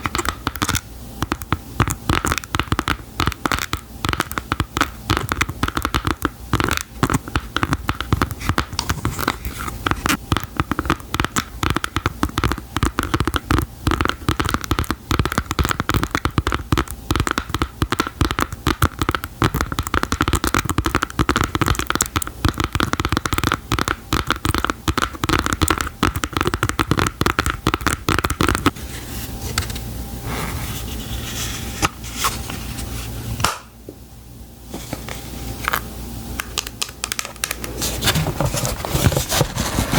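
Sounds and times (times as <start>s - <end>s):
hands tapping and scratching objects: 0.0s - 28.8s, 34.7s - 39.9s.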